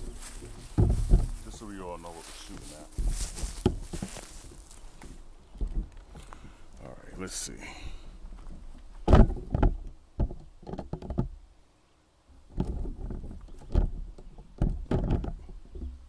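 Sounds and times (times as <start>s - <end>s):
handling knocks and clunks: 0.0s - 6.5s, 8.3s - 11.4s, 12.4s - 16.0s.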